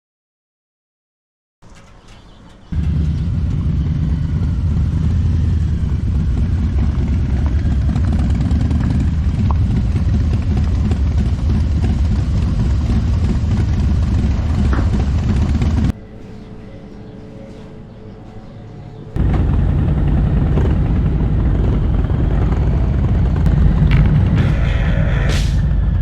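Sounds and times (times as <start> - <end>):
motorcycle engine rumbling: 1.6 - 16.0, 18.9 - 26.0.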